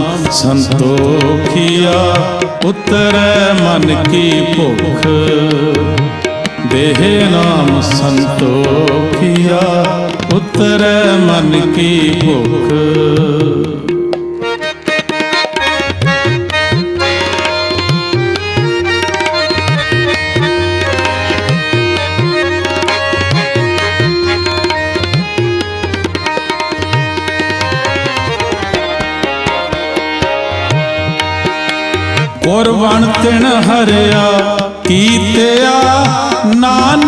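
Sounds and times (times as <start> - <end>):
tabla playing rhythm: 0.0 - 37.0.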